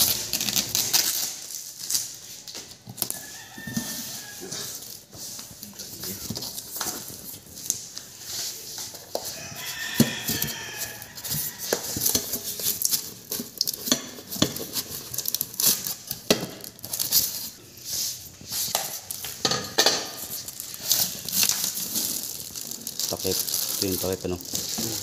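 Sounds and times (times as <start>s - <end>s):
plastic wrap rustling: 0.0s - 25.0s.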